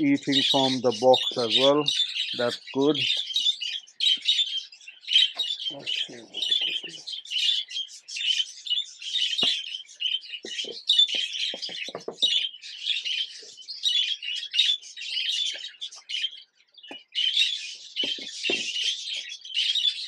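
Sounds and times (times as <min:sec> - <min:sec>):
budgerigars chattering: 0:00.0 - 0:20.0.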